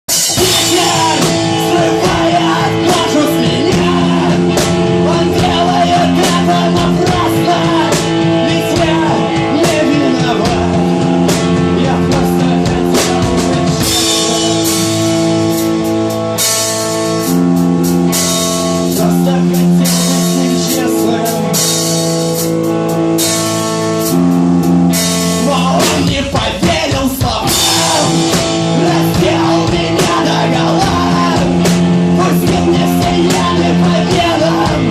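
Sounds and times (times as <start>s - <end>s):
drum kit with cymbals: 0.0s - 34.9s
electric guitar chords: 0.1s - 34.9s.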